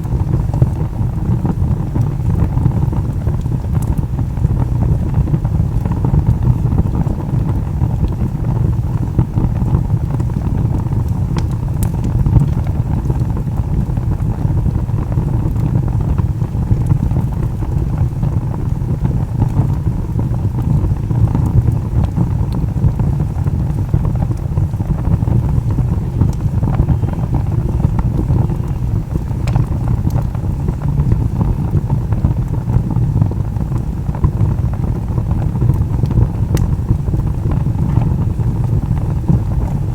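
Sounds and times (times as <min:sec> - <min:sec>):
fire crackling and popping: 0:00.0 - 0:39.9
fire low rumble: 0:00.0 - 0:39.9.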